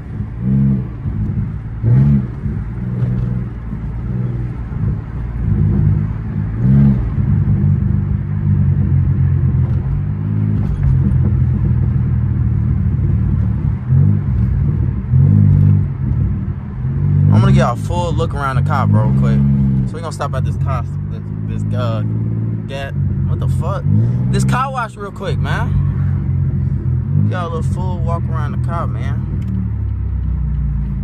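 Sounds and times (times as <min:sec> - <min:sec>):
car engine cruising: 0:00.0 - 0:31.0
road rumble: 0:00.0 - 0:31.0.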